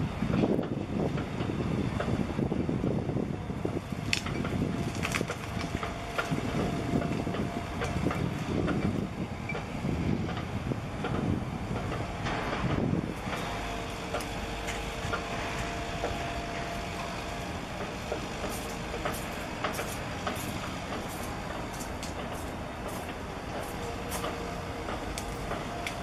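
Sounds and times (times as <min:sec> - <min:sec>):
ship engines rumbling: 0:00.0 - 0:26.0.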